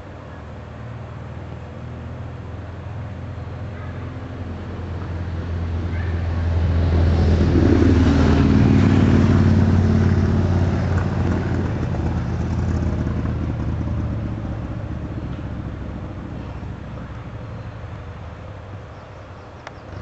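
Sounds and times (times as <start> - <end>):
vehicle driving past: 1.2 - 20.0.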